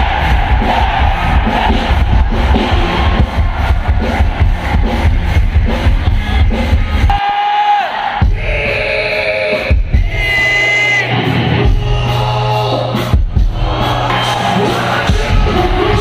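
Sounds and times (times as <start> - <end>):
live rock band playing: 0.0 - 7.2, 9.5 - 16.0.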